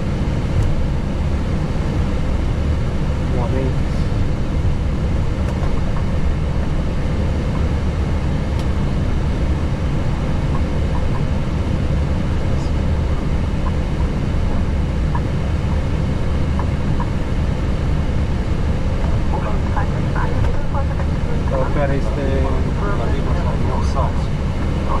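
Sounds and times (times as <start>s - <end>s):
aircraft engines idling rumble: 0.0s - 25.0s.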